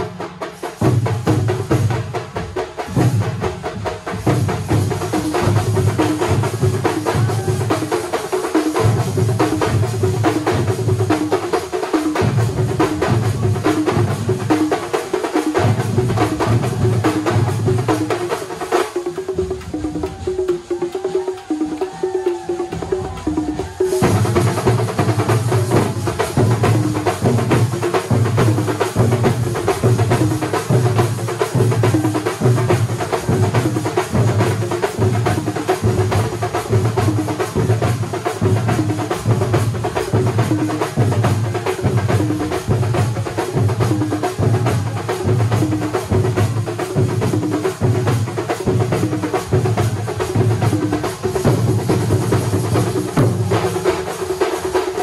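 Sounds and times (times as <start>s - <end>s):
large drums beaten with sticks: 0.0s - 55.0s.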